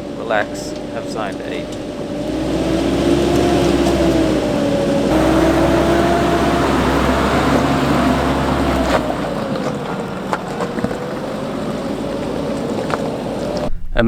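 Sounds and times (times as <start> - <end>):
truck engine droning: 0.0 - 13.7.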